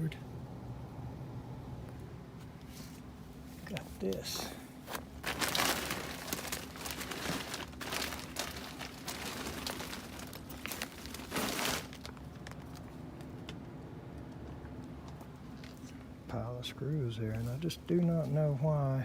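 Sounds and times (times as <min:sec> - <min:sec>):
insulation crinkling and rustling: 0:01.8 - 0:18.6.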